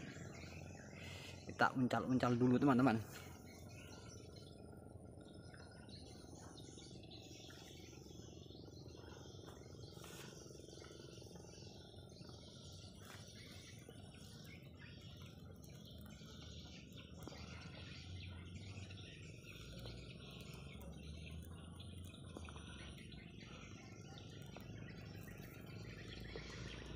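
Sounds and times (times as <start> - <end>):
insects: 0.0 - 26.9
small birds chirping: 0.0 - 26.9.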